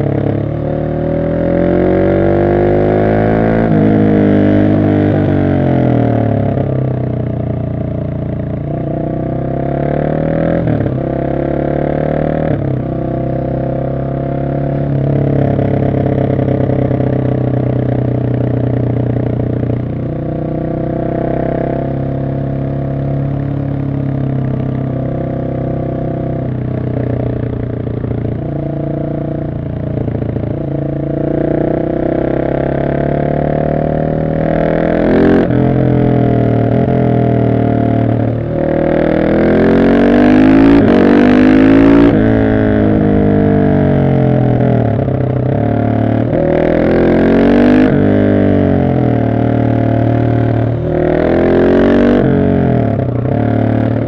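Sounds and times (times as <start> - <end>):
motorcycle engine accelerating hard: 0.0 - 54.0.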